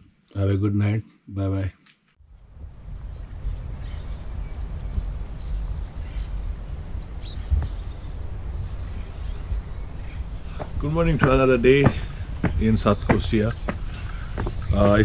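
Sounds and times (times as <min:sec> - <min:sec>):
birds chirping: 0:00.4 - 0:15.0
low outdoor rumble: 0:02.3 - 0:15.0.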